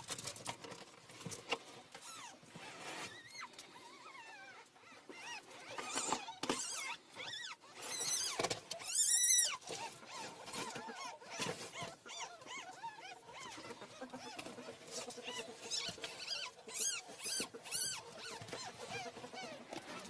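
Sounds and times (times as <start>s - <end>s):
ferrets squealing: 3.1s - 20.0s.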